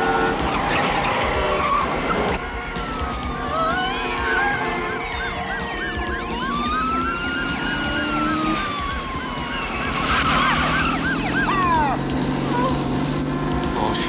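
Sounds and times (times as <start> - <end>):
police siren yelping: 0.0 - 13.9
low rumble of vehicles: 0.0 - 14.0
police siren wailing: 0.0 - 14.0.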